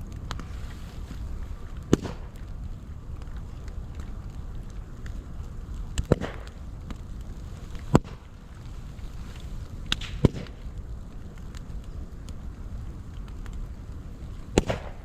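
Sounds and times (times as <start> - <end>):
bamboo cracking and snapping: 0.0 - 15.0
fire rumbling: 0.0 - 15.0.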